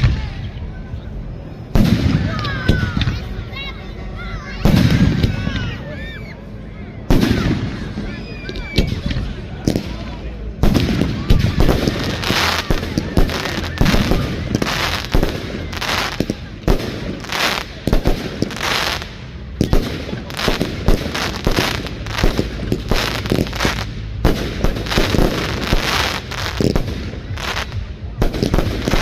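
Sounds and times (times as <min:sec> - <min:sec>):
fireworks bangs: 0:01.7 - 0:03.3, 0:04.6 - 0:05.8, 0:07.1 - 0:29.0
fireworks crackling: 0:01.7 - 0:03.7, 0:04.5 - 0:05.8, 0:07.0 - 0:29.0.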